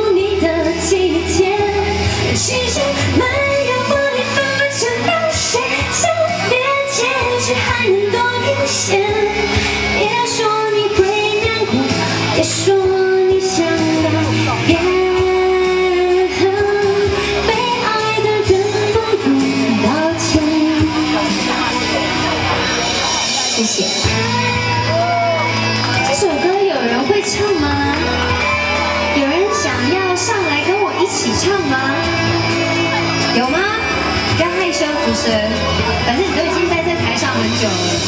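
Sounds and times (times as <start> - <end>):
woman singing into microphone: 0.0 - 22.4, 26.1 - 38.0
pop accompaniment with beat: 0.0 - 38.0.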